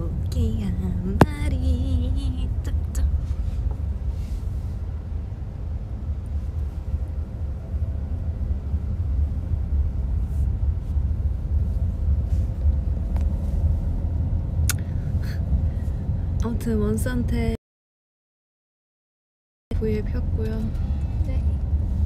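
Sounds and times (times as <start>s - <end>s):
road noise rumble in a van: 0.0s - 17.6s, 19.7s - 22.0s.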